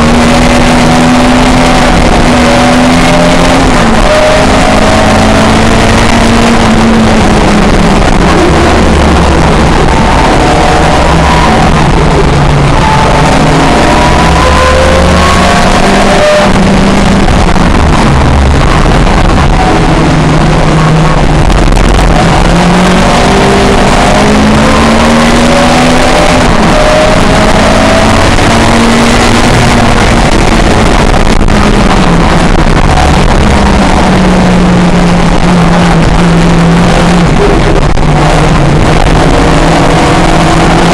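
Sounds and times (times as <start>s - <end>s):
racing car engines accelerating: 0.0s - 40.9s.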